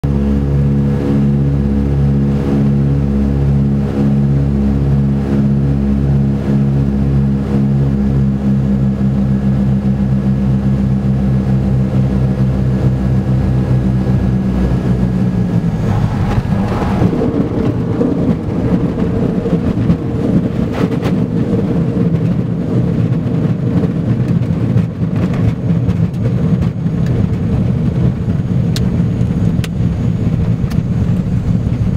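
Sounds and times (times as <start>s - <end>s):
light aircraft engine droning: 0.0s - 31.9s.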